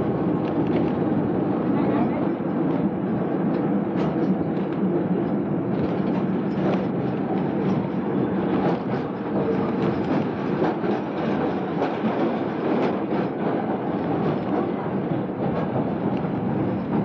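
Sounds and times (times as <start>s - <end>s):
tram wheels running on rails: 0.0s - 17.0s
light rail clicks: 2.7s - 17.0s.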